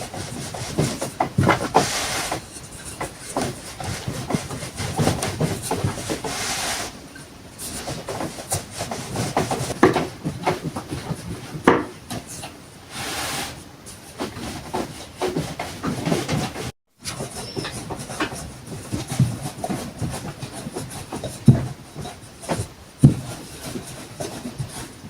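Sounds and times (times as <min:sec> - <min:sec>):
wood scraping: 0:00.0 - 0:12.2, 0:12.9 - 0:25.0.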